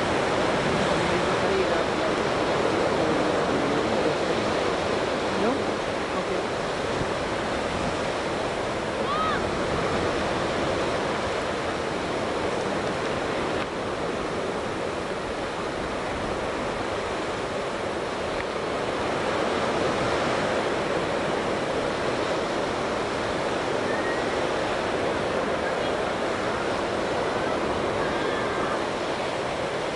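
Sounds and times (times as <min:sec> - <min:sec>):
ocean surf breaking: 0:00.0 - 0:29.9
wind: 0:00.0 - 0:29.9.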